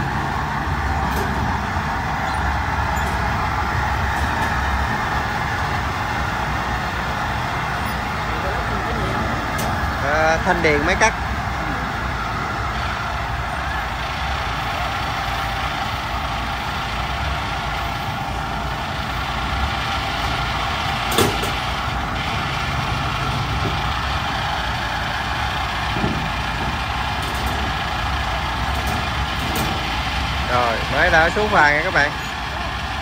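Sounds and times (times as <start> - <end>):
heavy engine running: 0.0 - 33.0.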